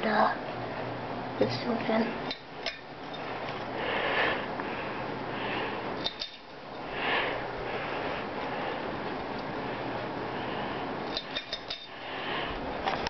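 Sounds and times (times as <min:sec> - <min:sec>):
ceiling fan whooshing: 0:00.0 - 0:13.0.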